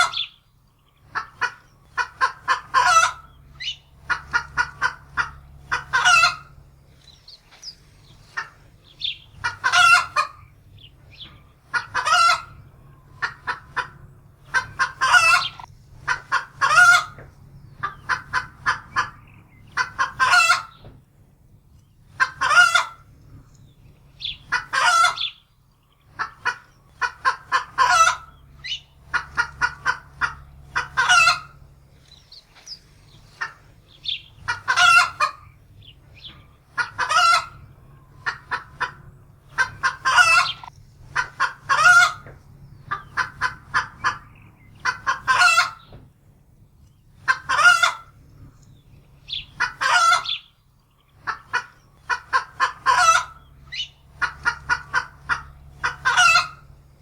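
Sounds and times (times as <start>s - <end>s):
hen alarm cackling: 0.0s - 20.9s, 22.0s - 23.4s, 24.0s - 46.0s, 47.1s - 57.0s.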